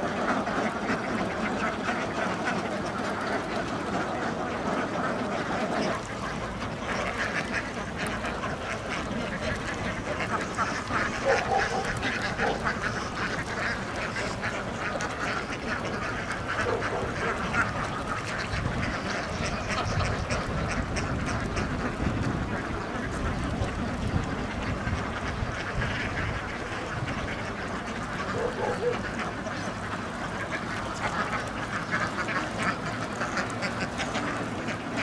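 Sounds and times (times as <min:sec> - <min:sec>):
flock of ducks quacking: 0:00.0 - 0:35.0.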